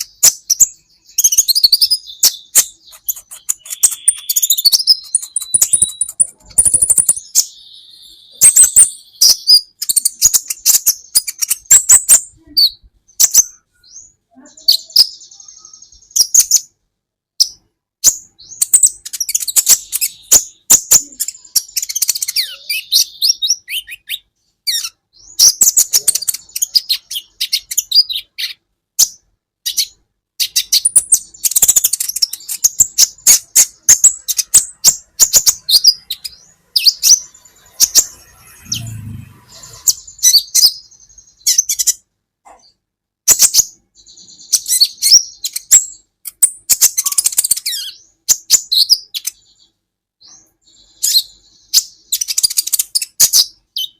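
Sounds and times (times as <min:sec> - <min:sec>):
bird chirping and trilling: 0:00.0 - 0:16.8, 0:17.4 - 0:53.9.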